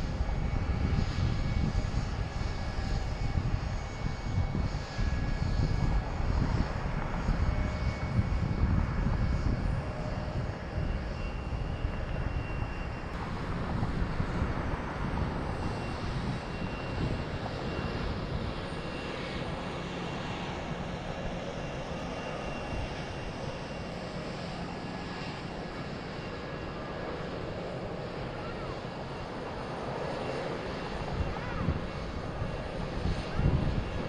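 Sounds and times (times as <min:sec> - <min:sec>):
jet engine rushing: 0:00.0 - 0:34.0.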